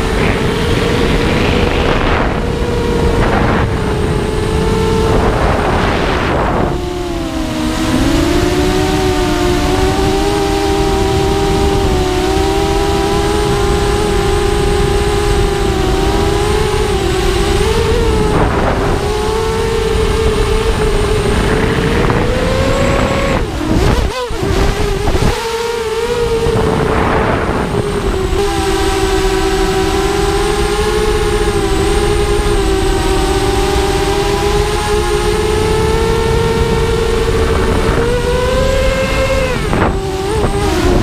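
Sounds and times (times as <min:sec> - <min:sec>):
quadcopter motors whining: 0:00.0 - 0:41.0
wind rush: 0:00.0 - 0:41.0.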